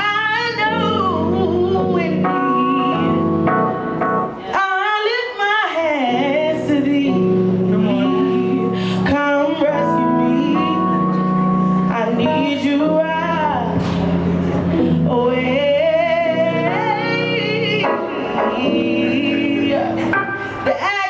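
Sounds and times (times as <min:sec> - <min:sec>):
person singing gospel: 0:00.0 - 0:03.5, 0:04.3 - 0:21.0
held keyboard chords: 0:00.0 - 0:04.8, 0:06.0 - 0:21.0.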